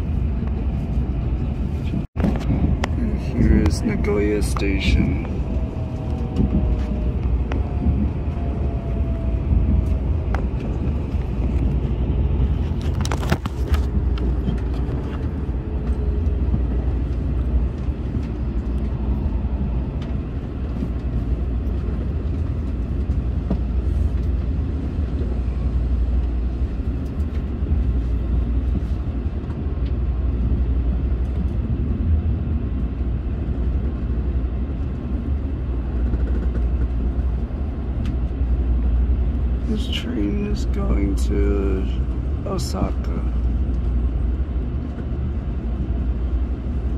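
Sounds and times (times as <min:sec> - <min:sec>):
train rumble from inside carriage: 0:00.0 - 0:46.9.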